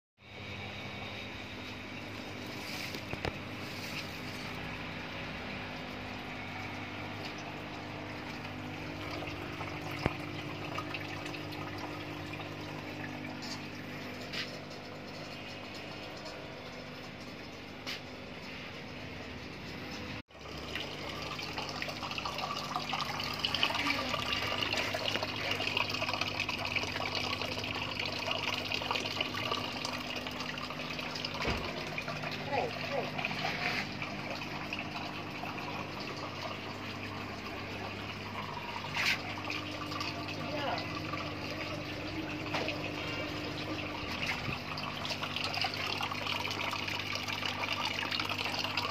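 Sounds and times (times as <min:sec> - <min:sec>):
trickle and splash of falling water: 0:07.1 - 0:18.6, 0:20.3 - 0:48.9.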